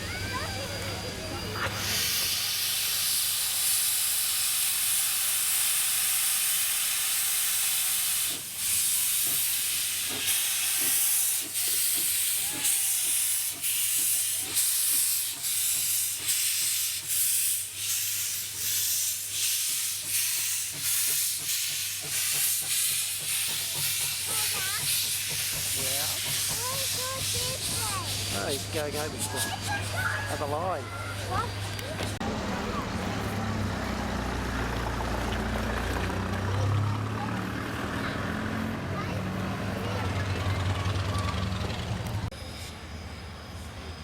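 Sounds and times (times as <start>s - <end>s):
steam locomotive chuffing: 0.0s - 44.0s
steam locomotive hissing: 0.0s - 44.0s.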